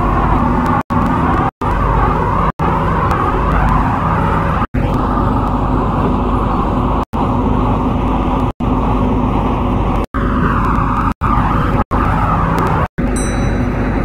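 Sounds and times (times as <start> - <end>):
electric train rumbling: 0.0 - 14.0
faint hum: 0.0 - 14.0.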